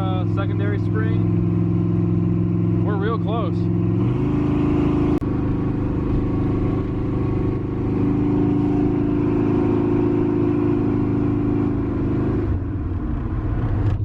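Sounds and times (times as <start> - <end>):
truck engine droning: 0.0 - 14.0.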